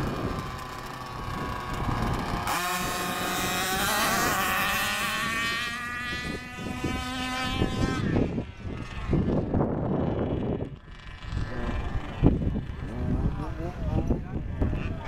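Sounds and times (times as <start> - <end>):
rc car engines revving: 0.0 - 15.0.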